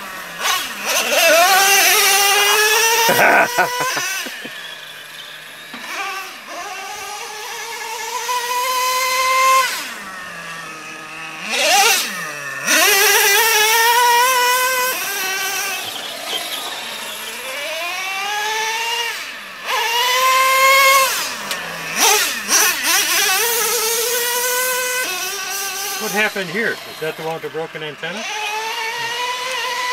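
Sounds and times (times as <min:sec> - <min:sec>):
rc truck engine revving: 0:00.0 - 0:29.9.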